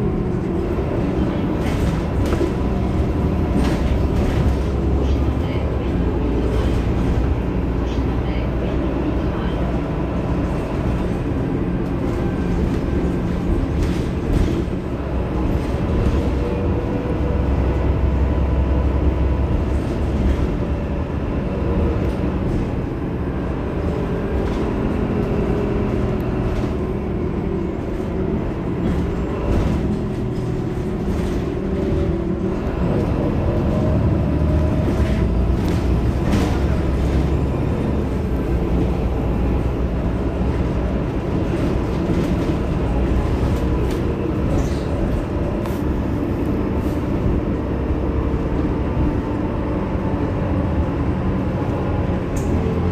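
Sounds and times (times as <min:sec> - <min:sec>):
bus engine idling: 0:00.0 - 0:52.9.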